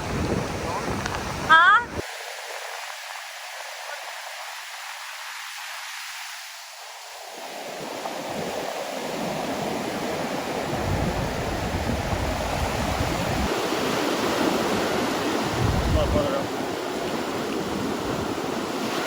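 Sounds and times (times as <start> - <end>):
ocean surf on a beach: 0.0 - 19.0
wind on microphone: 0.0 - 19.0.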